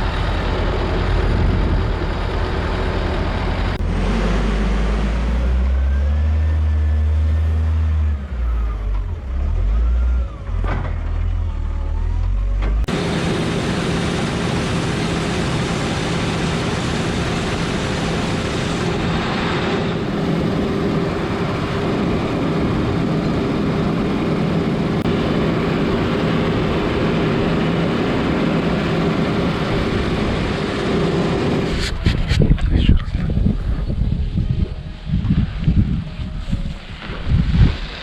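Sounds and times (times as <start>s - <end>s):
combine harvester droning: 0.0s - 38.0s.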